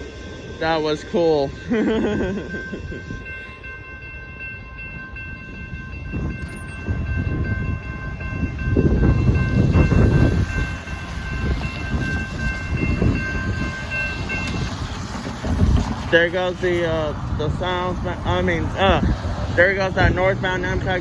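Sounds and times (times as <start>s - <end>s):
crossing warning bell ringing: 0.0s - 15.4s, 16.0s - 21.0s
train rumbling past: 0.0s - 21.0s.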